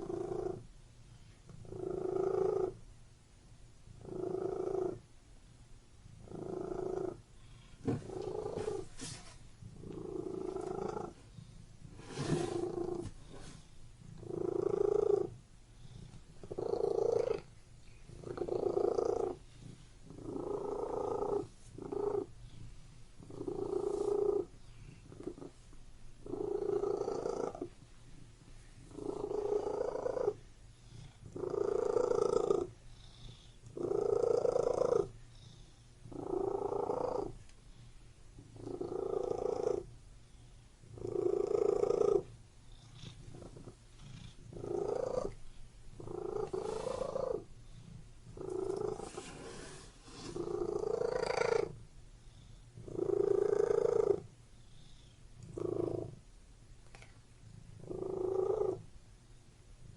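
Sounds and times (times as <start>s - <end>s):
cat purring: 0.0s - 2.9s, 3.8s - 5.1s, 5.9s - 58.9s.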